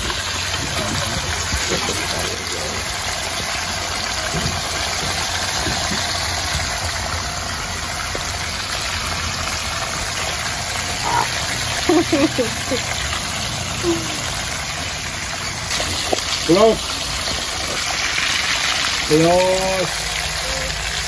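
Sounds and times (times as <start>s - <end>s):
oil sizzling around frying fish: 0.0s - 21.0s.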